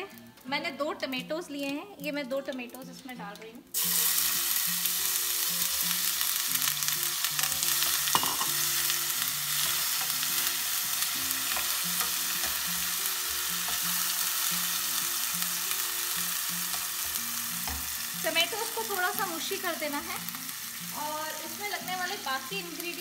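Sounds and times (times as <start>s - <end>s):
tomatoes sizzling in oil: 0.0s - 23.0s.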